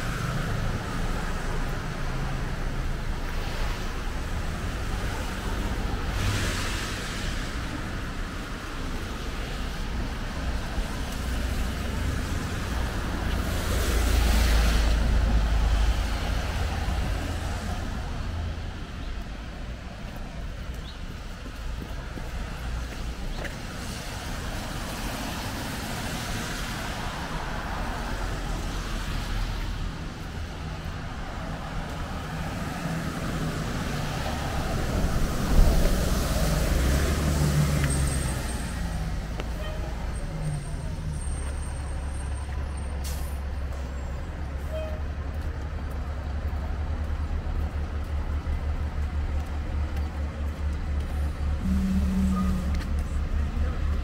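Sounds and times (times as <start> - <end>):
tyres hissing on wet road: 0.0 - 45.0, 51.0 - 54.0
low traffic rumble: 0.0 - 54.0.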